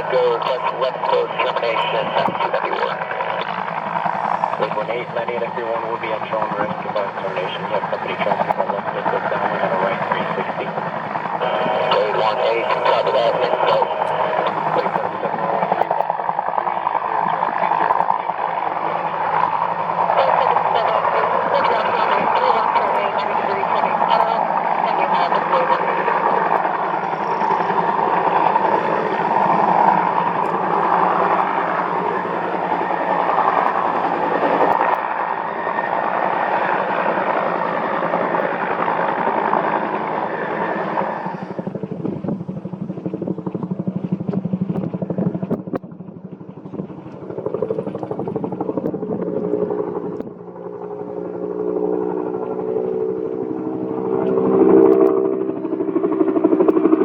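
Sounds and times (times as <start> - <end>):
low humming tones: 0.0 - 56.8
helicopter rotor and turbine noise: 0.0 - 57.0.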